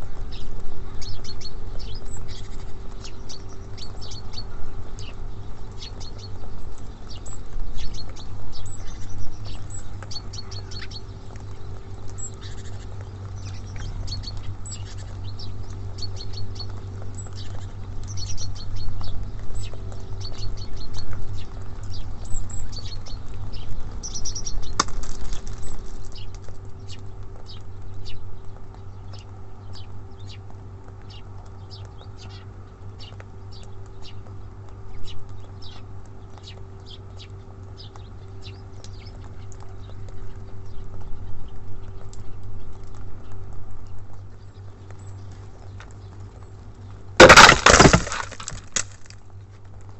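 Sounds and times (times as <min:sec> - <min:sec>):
small songbirds chirping: 0:00.0 - 0:49.9
steady low hum: 0:00.0 - 0:49.9.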